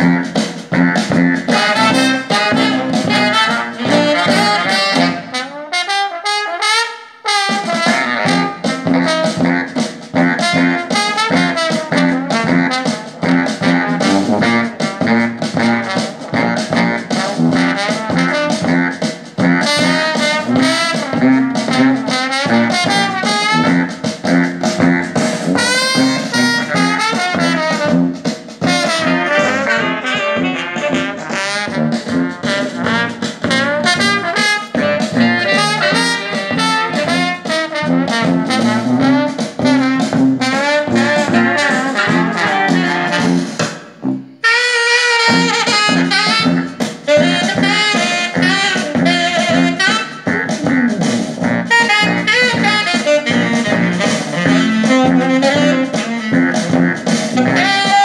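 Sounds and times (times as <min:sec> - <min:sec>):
jazz music with horns: 0:00.0 - 0:58.0.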